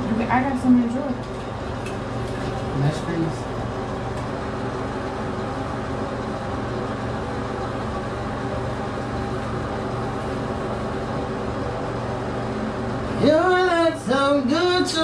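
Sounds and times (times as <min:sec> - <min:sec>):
machine hum with faint tones: 0:00.0 - 0:15.0.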